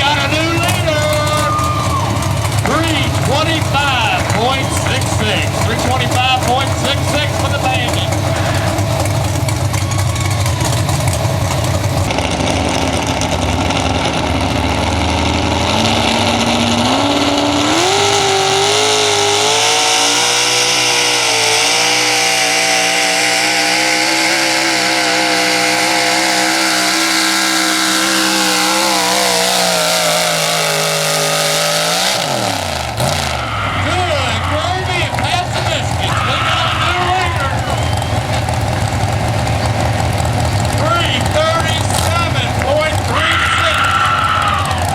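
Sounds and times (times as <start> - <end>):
truck engine at high revs: 0.0 - 44.9.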